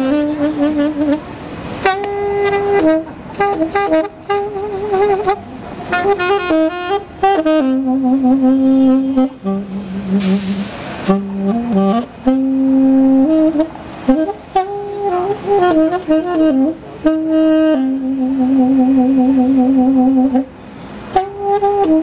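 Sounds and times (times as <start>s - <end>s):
saxophone jazz melody: 0.0s - 22.0s.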